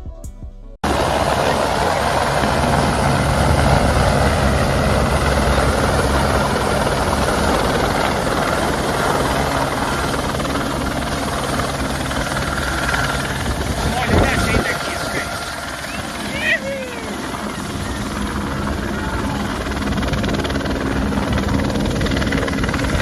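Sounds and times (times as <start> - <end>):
helicopter rotor throbbing: 0.8 - 23.0
rotor downwash noise: 0.8 - 23.0.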